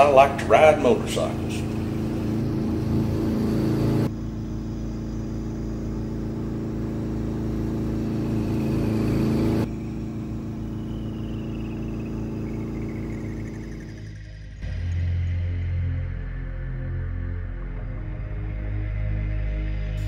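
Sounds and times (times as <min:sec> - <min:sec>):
motorcycle engine droning: 0:00.0 - 0:16.8.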